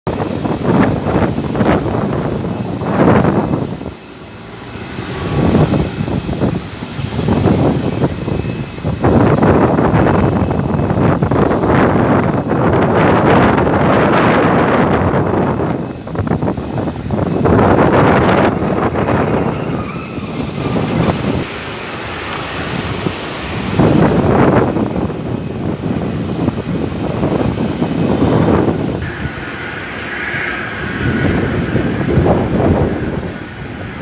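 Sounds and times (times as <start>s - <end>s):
jet airliner rumble: 0.0s - 34.0s.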